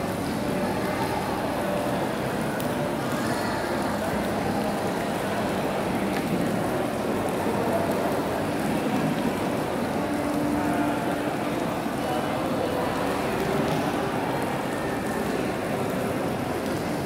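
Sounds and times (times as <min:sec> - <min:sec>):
rushing mall background noise: 0:00.0 - 0:17.0.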